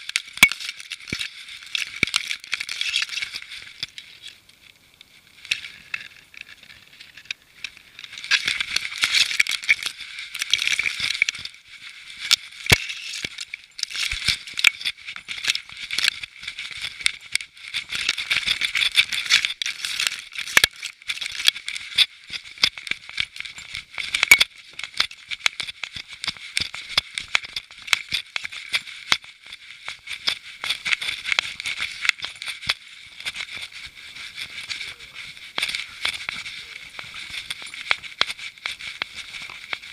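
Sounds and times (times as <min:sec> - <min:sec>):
grass and fur rustling on camera: 0:00.0 - 0:39.9.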